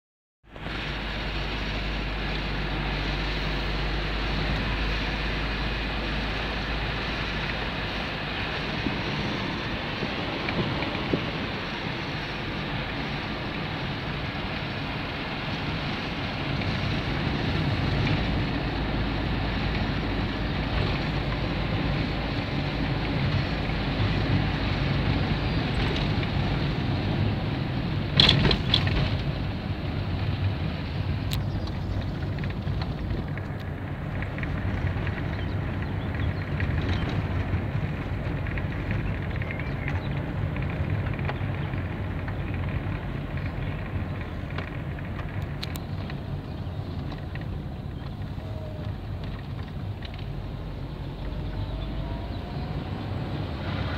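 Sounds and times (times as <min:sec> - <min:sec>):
car engine: 0:00.4 - 0:53.9
tyre and wind noise: 0:00.5 - 0:53.9.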